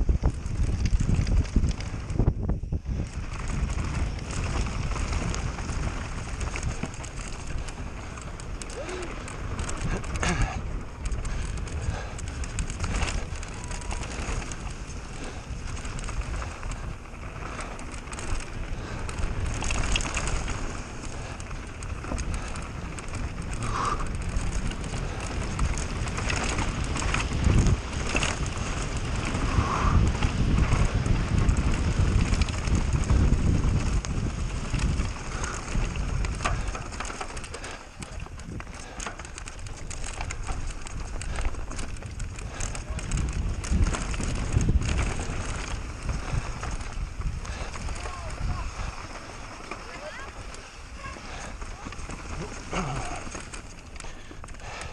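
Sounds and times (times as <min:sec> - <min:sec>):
bike rattling: 0:00.0 - 0:54.9
bike tyres rumbling over stones: 0:00.0 - 0:54.9.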